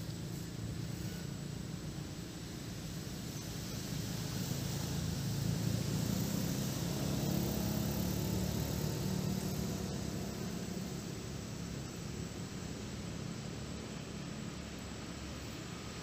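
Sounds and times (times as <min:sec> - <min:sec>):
engine running low rumble: 0:00.0 - 0:16.0.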